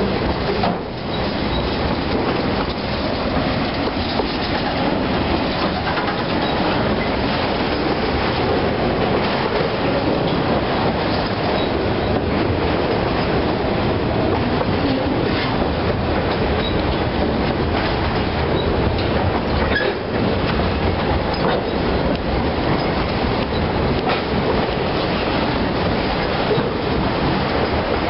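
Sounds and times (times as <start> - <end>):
freight train rolling past: 0.0 - 28.0
steel wheels on rails: 0.0 - 28.0.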